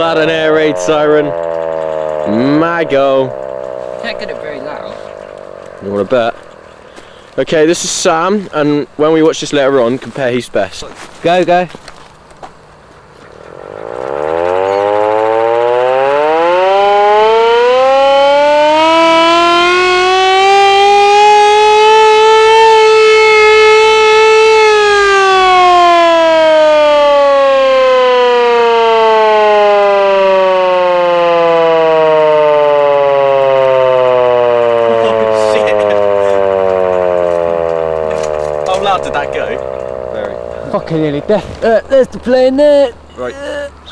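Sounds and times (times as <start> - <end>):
hand-cranked air raid siren wailing: 0.0 - 8.3, 13.5 - 42.1.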